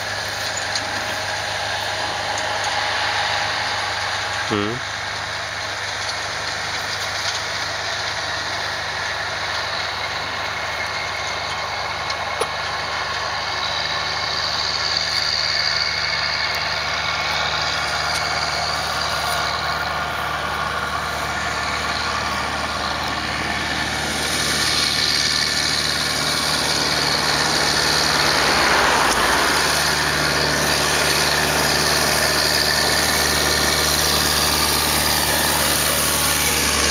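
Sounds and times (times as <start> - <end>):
tractor diesel engine droning: 0.0 - 36.9.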